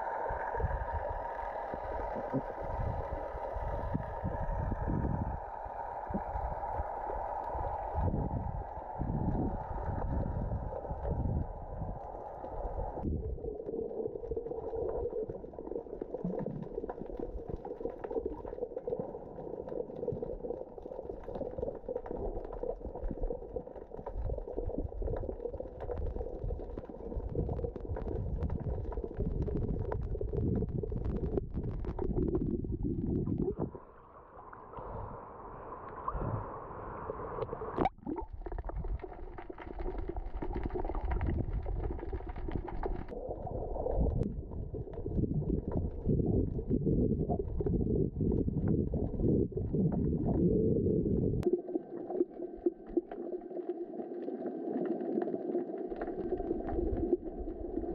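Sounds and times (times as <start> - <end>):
underwater rumbling and gurgling: 0.0 - 57.9.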